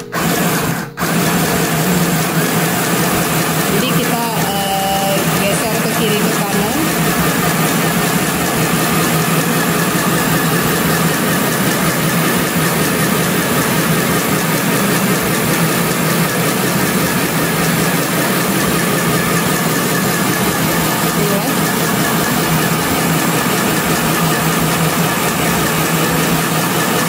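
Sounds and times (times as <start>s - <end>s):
small sewing machine motor running: 0.0s - 27.0s.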